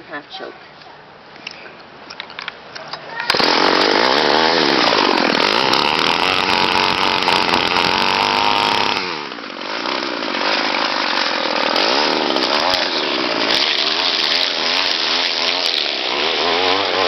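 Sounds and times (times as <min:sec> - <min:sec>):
string trimmer engine revving: 0:03.2 - 0:17.0.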